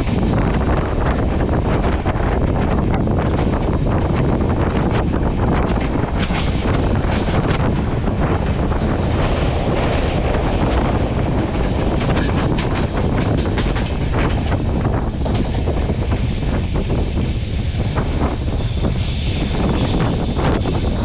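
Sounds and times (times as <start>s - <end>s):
train wheels rumbling on rails: 0.0s - 21.0s
wind buffeting microphone: 0.0s - 21.0s.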